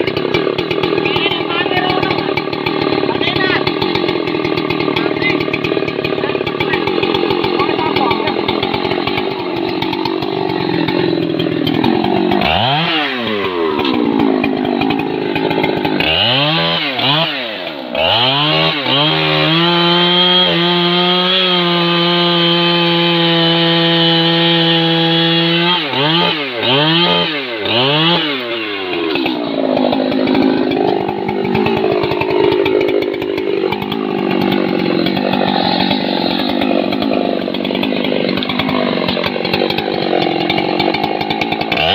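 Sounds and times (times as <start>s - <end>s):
chainsaw cutting trunk: 0.0s - 41.9s.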